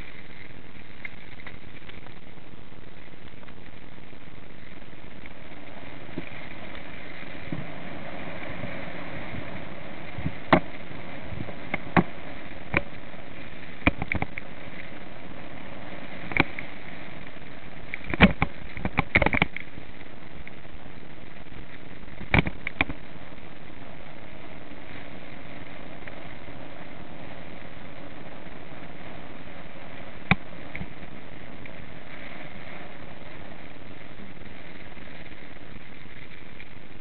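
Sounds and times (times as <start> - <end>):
tyre and wind rush: 0.0 - 37.0.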